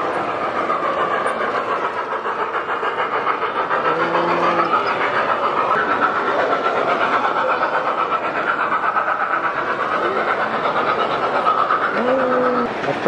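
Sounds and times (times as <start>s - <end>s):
model train whine: 0.0s - 13.0s
train wheels clattering: 0.0s - 13.0s.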